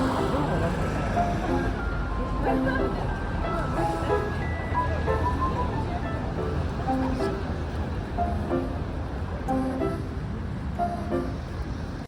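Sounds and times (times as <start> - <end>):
low steady music bed: 0.0 - 12.0.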